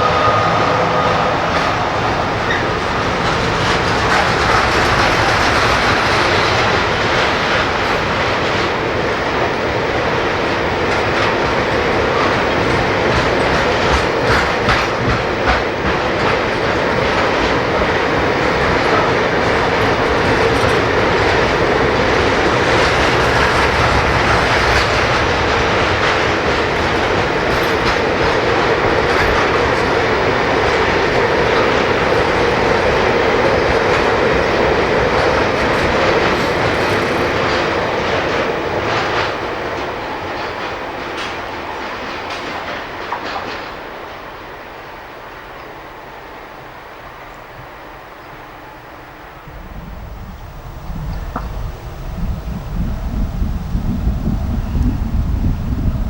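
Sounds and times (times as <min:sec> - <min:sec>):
freight train wheels clicking on rails: 0:00.0 - 0:48.7, 0:49.3 - 0:56.0.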